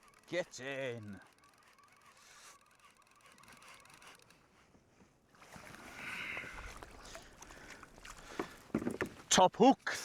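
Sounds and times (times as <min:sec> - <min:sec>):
faint water sounds: 0:00.0 - 0:10.0.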